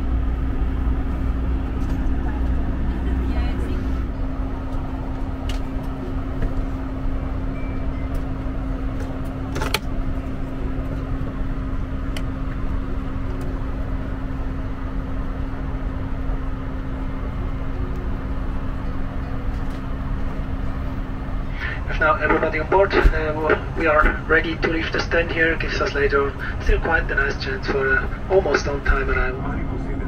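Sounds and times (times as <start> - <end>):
aircraft cabin ventilation hum: 0.0 - 30.0
low steady drone: 0.0 - 30.0.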